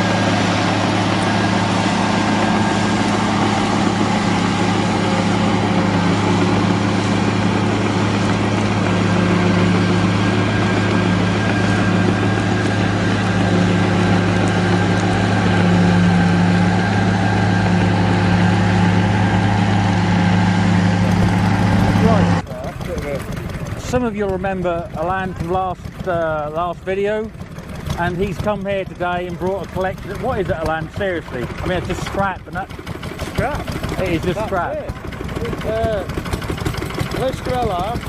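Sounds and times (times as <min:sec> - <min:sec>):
engine droning steadily: 0:00.0 - 0:38.0.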